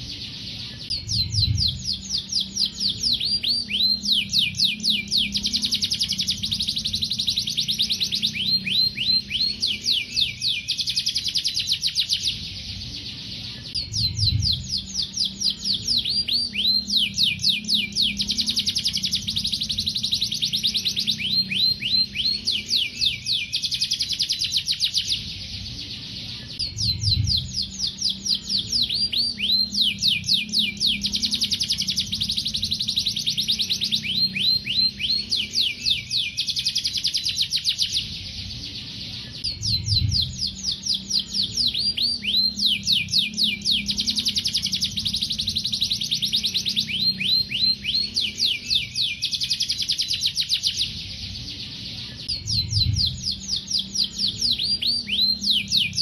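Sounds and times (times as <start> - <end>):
canary singing rapid trills: 0.0 - 56.0.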